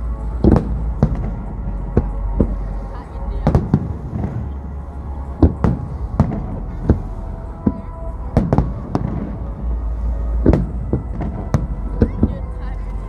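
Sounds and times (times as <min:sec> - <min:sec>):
low rumble of fireworks bursts: 0:00.0 - 0:13.0
fireworks bangs: 0:00.4 - 0:04.6, 0:05.3 - 0:12.6.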